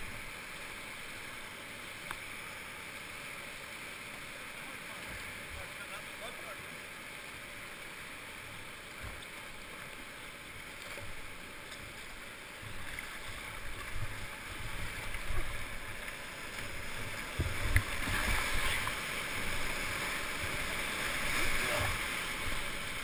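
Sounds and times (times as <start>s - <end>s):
whitewater rushing: 0.0s - 23.0s.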